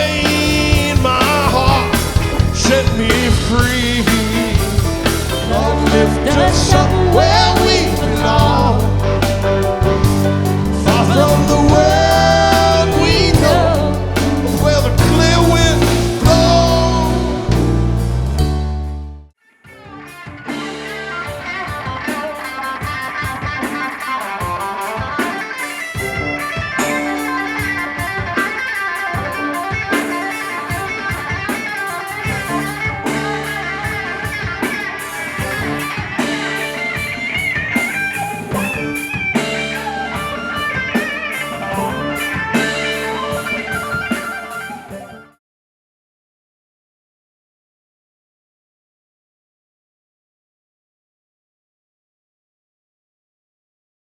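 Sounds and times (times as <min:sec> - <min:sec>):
drum kit: 0:00.0 - 0:45.2
electric guitar: 0:00.0 - 0:45.4.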